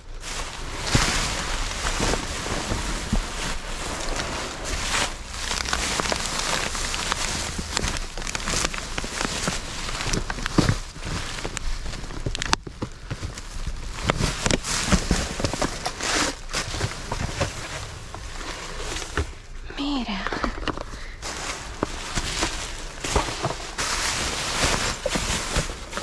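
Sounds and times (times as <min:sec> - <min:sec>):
plastic and paper rustling: 0:00.0 - 0:26.0.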